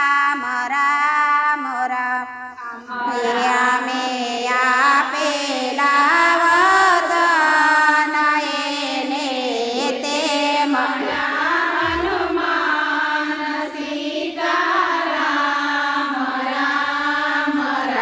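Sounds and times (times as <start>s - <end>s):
women singing devotional song: 0.0s - 18.0s.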